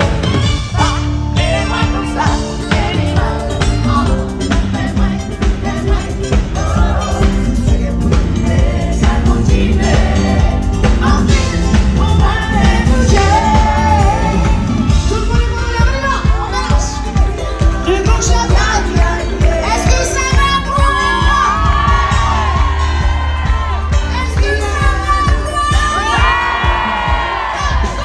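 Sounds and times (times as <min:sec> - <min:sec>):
live band playing: 0:00.0 - 0:28.0
woman singing lead: 0:00.0 - 0:28.0.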